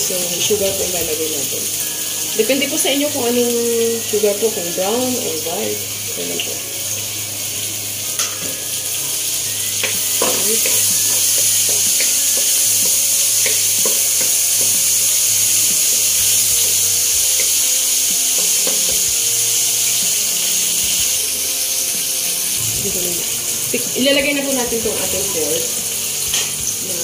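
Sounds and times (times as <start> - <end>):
oil sizzling in a wok: 0.0 - 27.0.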